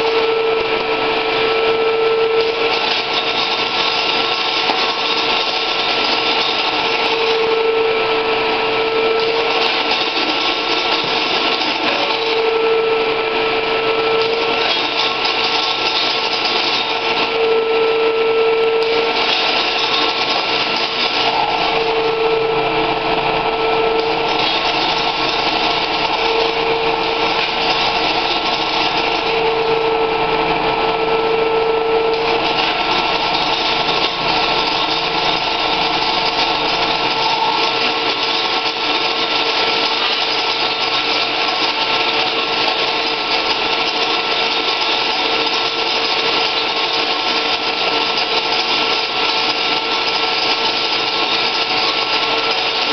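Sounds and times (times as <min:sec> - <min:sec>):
sheet metal machine humming: 0:00.0 - 0:52.9.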